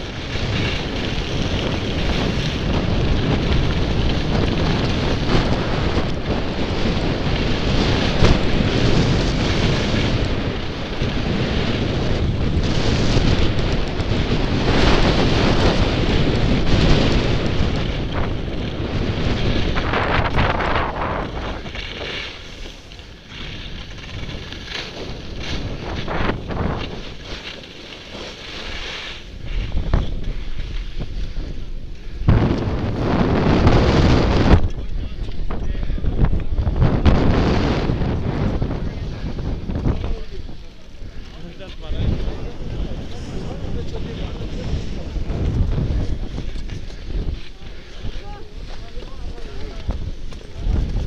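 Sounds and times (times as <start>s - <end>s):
skis scraping on snow: 0.0s - 51.0s
wind buffeting microphone: 0.0s - 51.0s.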